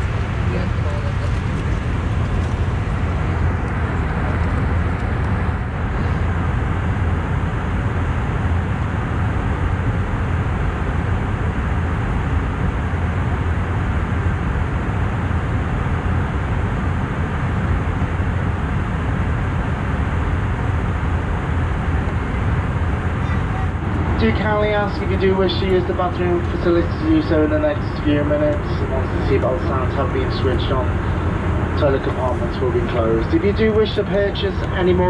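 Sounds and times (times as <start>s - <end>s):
airplane cabin engine drone: 0.0s - 35.0s.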